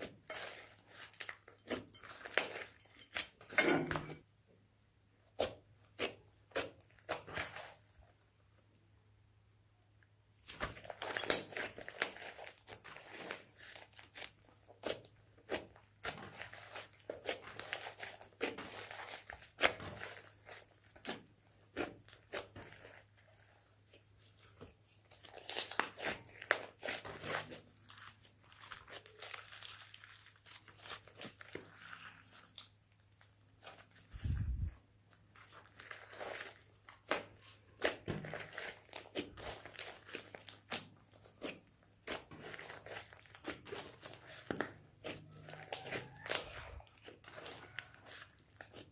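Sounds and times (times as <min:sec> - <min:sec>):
slime squelching and crackling: 0:00.0 - 0:03.6, 0:05.3 - 0:08.1, 0:10.4 - 0:48.9.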